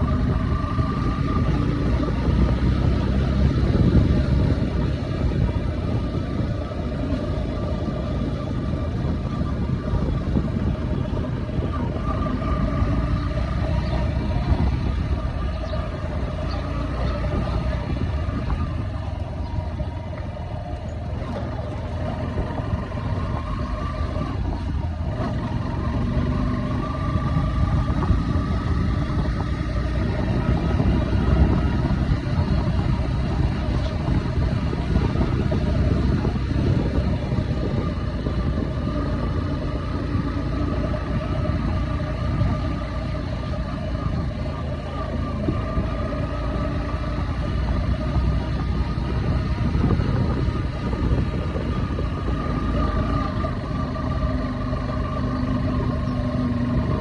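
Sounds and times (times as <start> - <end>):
vehicle engine running: 0.0 - 57.0
wind buffeting microphone: 0.0 - 57.0.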